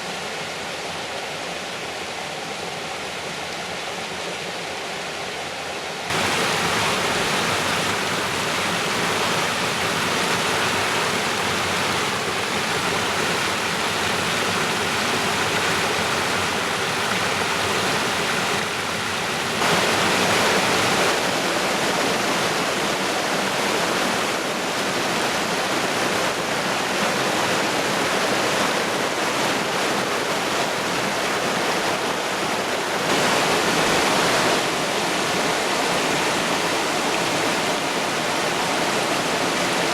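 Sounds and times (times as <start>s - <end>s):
water rushing over rocks: 4.9s - 39.9s.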